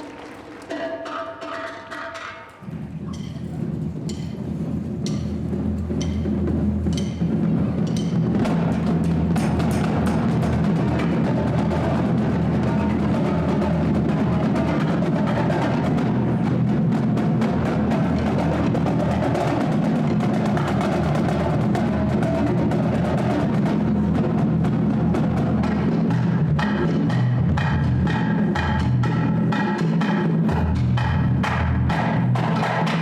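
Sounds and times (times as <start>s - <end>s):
drums playing rapid strokes: 0.0s - 33.0s
sharp bright drum strokes: 0.0s - 33.0s
steady low tones: 2.6s - 32.8s.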